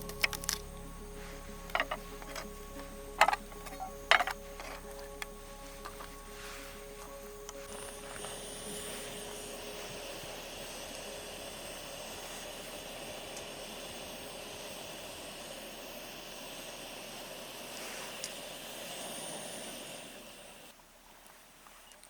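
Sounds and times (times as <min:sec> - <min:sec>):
camp burner hissing roar: 0:00.0 - 0:20.8.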